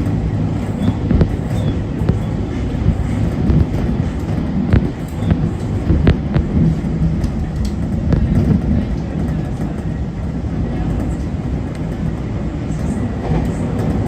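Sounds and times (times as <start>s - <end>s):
electric train rumble from inside: 0.0s - 14.0s.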